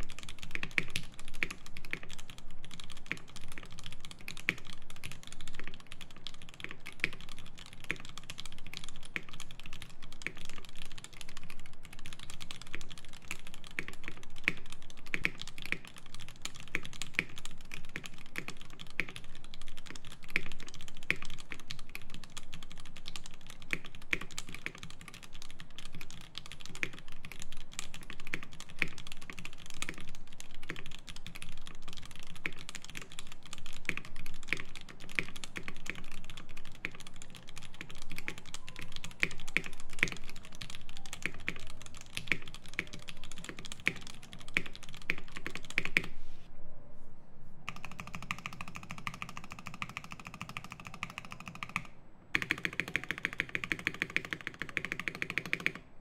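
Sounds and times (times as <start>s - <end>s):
mechanical keyboard typing: 0.0s - 46.2s, 47.7s - 55.9s.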